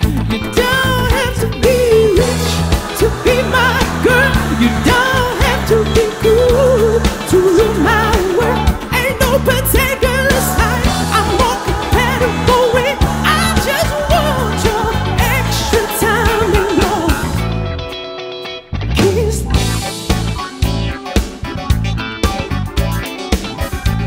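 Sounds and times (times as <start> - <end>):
pop song with singing: 0.0 - 18.1, 18.9 - 20.4.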